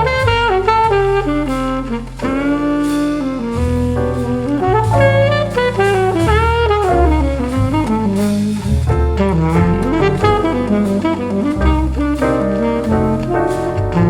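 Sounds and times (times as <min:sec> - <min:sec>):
big band jazz music: 0:00.0 - 0:14.0.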